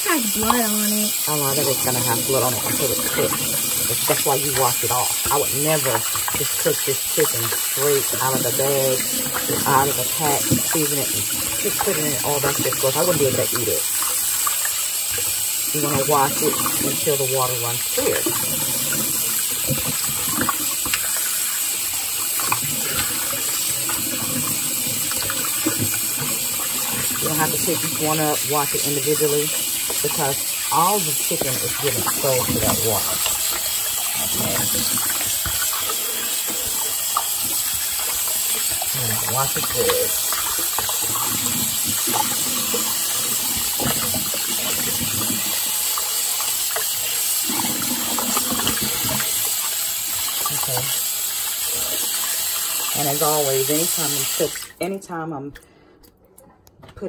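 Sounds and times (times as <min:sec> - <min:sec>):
faucet running into sink: 0:00.0 - 0:54.8
water splashes: 0:00.0 - 0:54.9.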